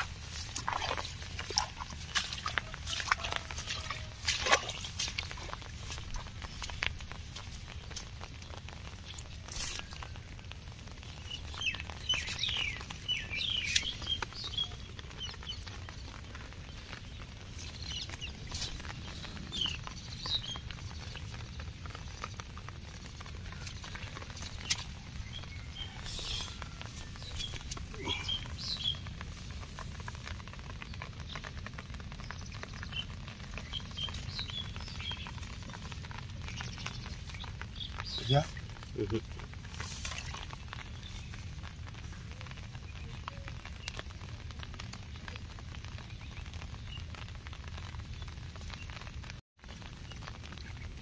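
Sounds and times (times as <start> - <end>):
steady low rumble: 0.0 - 43.2
birds chirping: 0.0 - 49.1.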